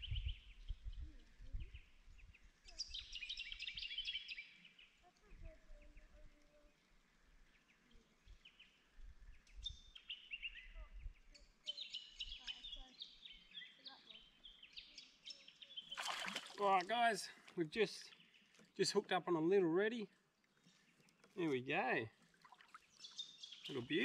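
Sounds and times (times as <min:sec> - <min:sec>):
birds chirping chorus: 0:00.0 - 0:06.2, 0:07.4 - 0:24.0.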